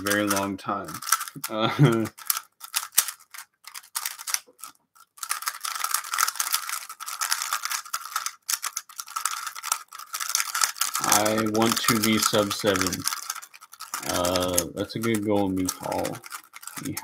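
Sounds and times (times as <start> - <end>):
puzzle cube clicking as turned: 0.0 - 17.0.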